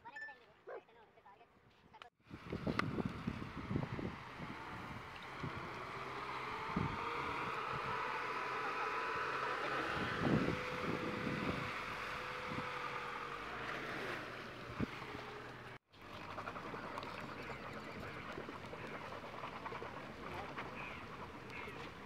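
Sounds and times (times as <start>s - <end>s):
water swishing and splashing: 2.4s - 22.0s
car engine running: 2.6s - 22.0s.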